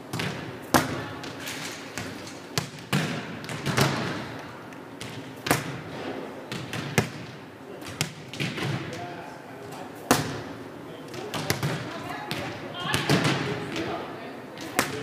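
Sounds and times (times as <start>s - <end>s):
hand slapping volleyball: 0.1s - 9.0s, 9.7s - 14.0s, 14.6s - 15.0s.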